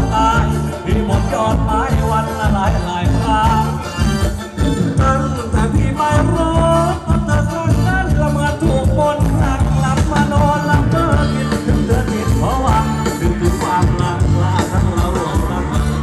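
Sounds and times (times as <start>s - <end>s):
driving drum beat: 0.0s - 16.0s
live band playing dance music: 0.0s - 16.0s
person singing: 0.0s - 16.0s.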